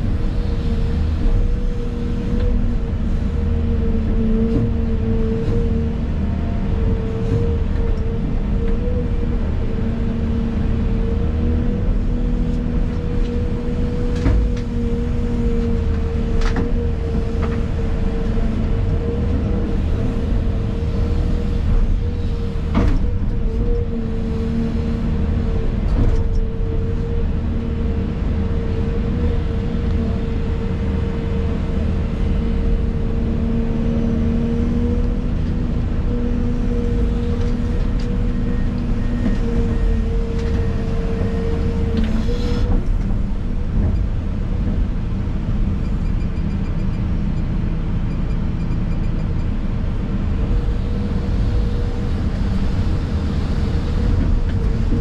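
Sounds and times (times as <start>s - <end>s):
excavator engine and hydraulics: 0.0s - 55.0s.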